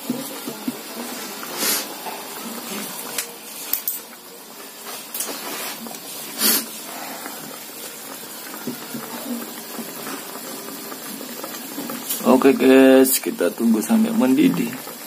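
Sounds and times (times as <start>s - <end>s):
gas stove burner hissing: 0.0s - 15.0s.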